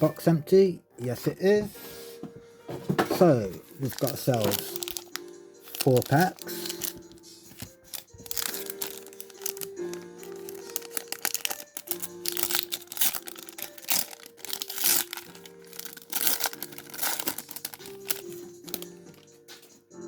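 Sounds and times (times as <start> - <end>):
background music: 0.0 - 20.0
plastic wrapping crinkling: 2.9 - 19.7.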